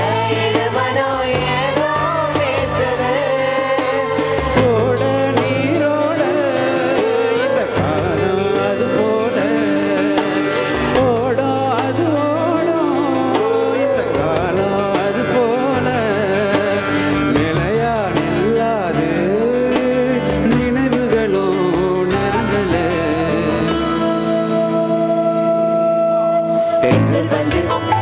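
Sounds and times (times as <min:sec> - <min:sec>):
keyboard accompaniment: 0:00.0 - 0:28.0
man singing: 0:03.1 - 0:28.0.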